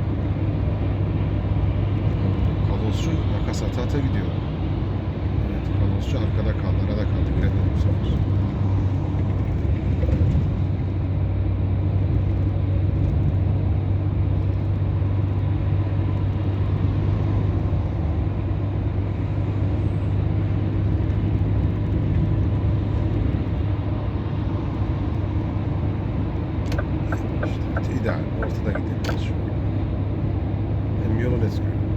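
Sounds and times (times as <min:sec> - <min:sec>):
truck diesel engine droning: 0:00.0 - 0:31.9
tyre and road noise: 0:00.0 - 0:31.9.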